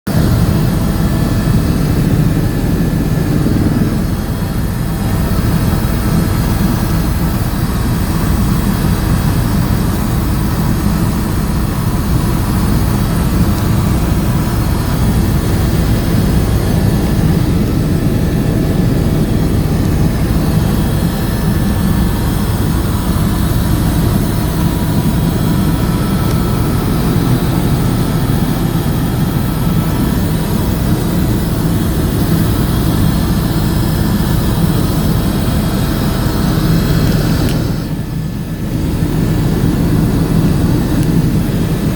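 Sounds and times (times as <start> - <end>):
helicopter engine and rotor noise: 0.0 - 41.9.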